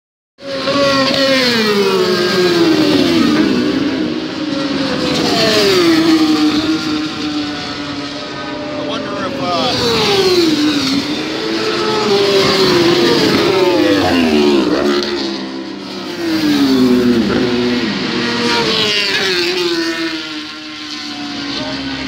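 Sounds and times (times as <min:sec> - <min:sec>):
superbike engines passing at high revs: 0:00.4 - 0:22.0.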